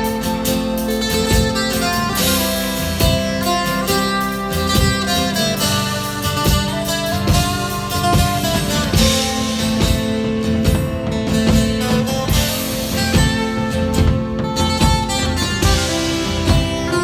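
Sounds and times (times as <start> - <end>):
drum hits: 0.0 - 17.0
strummed guitar: 0.0 - 17.0.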